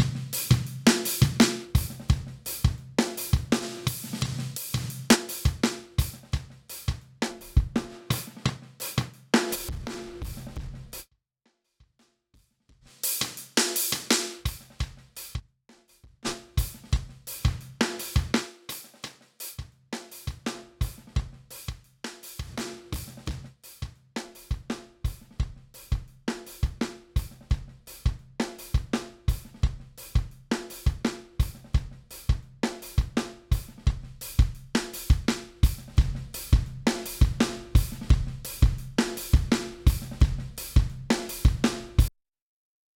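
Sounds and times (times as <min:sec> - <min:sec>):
rock drum kit beat: 0:00.0 - 0:11.0, 0:12.8 - 0:15.4, 0:16.2 - 0:42.1.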